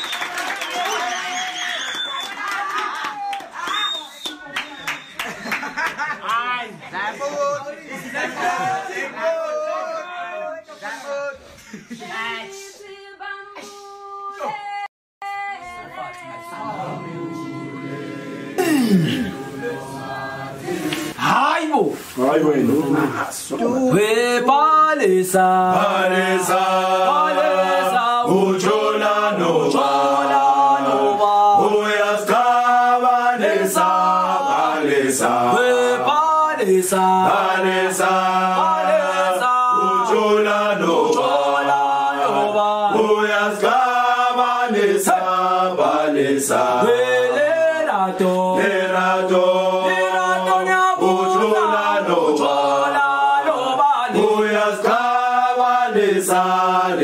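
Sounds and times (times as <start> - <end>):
group chanting a cappella: 7.9 - 21.4, 22.0 - 57.0.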